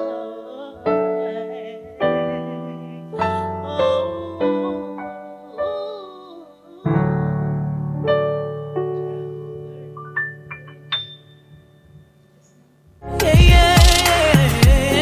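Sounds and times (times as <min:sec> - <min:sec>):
piano-like chords: 0:00.0 - 0:15.0.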